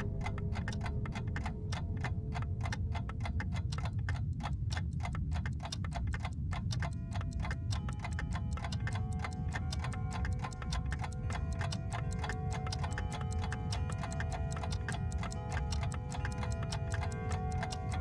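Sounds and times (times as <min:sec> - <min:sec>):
faint music: 0:00.0 - 0:18.0.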